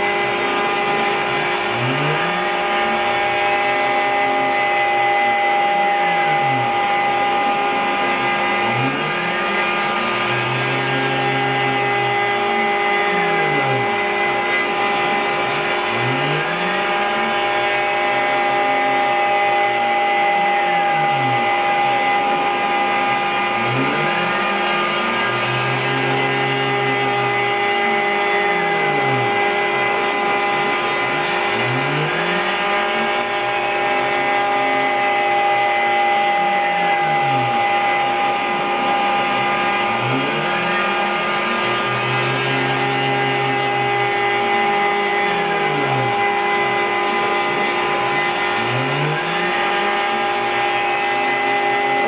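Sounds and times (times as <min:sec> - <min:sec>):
dust collector suction: 0:00.0 - 0:52.0
router spindle whine: 0:00.0 - 0:52.0
stepper motors sweeping pitch: 0:00.0 - 0:52.0.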